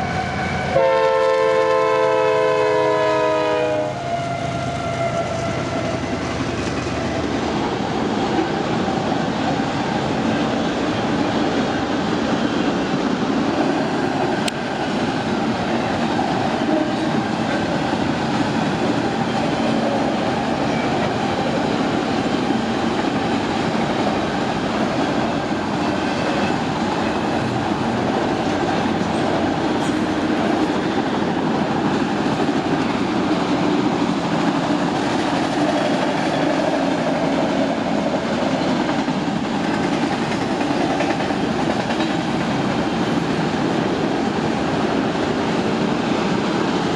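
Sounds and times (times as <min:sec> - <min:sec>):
train wheels on rail: 0:00.0 - 0:46.9.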